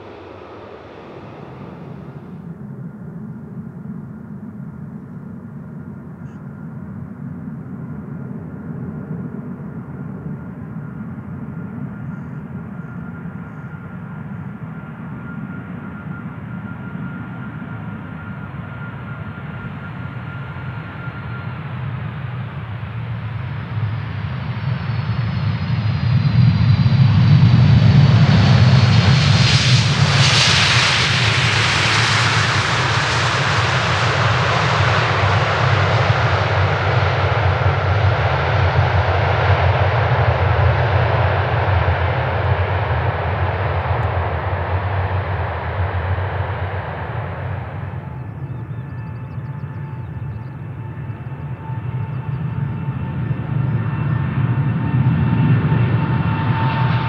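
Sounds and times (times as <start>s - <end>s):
jet engines rumbling and whining: 0.0s - 57.0s.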